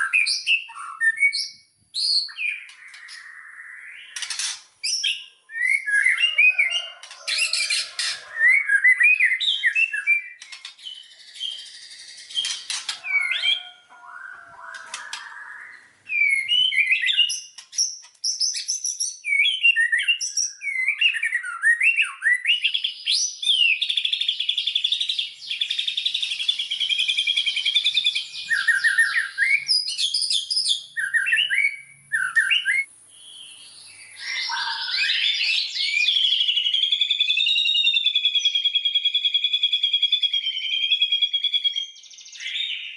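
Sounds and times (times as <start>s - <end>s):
songbird whistling and trilling: 0.0s - 42.9s.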